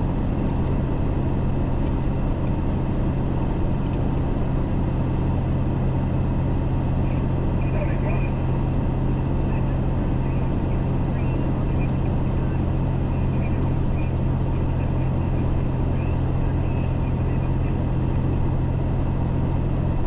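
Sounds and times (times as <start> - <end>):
diesel truck engine droning: 0.0 - 20.0
road noise: 0.0 - 20.0.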